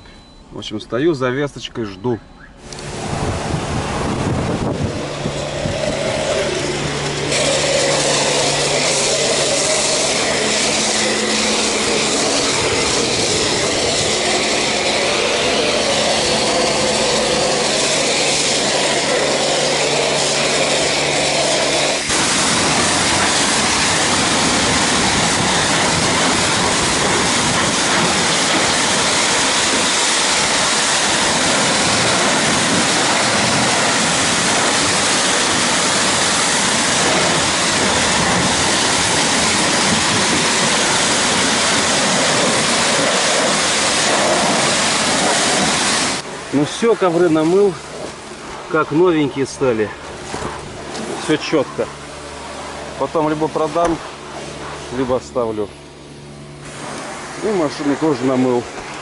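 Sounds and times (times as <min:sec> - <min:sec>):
steady low hum: 0:00.0 - 0:59.0
pressure wand spraying: 0:02.6 - 0:48.8, 0:50.0 - 0:55.1, 0:56.1 - 0:59.0.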